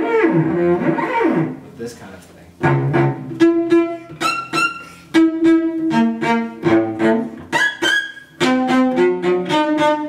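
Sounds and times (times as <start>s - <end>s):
cello bowed notes: 0.0s - 1.6s, 2.6s - 10.0s.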